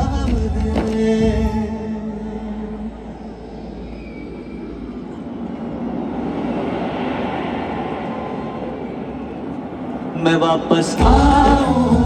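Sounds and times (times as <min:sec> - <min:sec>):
concert crowd cheering: 0:00.0 - 0:12.0.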